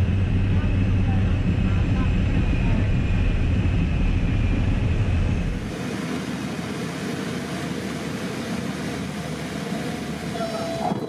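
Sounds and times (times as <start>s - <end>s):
aircraft rushing on runway: 0.0s - 11.0s
turboprop engines droning: 0.0s - 11.0s.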